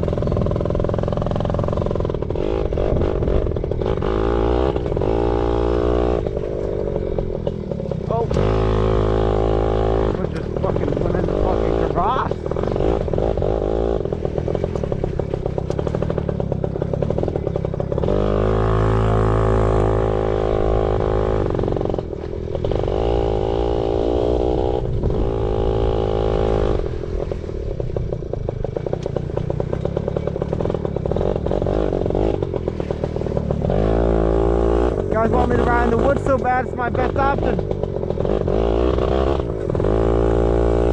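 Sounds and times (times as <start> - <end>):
two-stroke motorbike engine revving: 0.0 - 40.9.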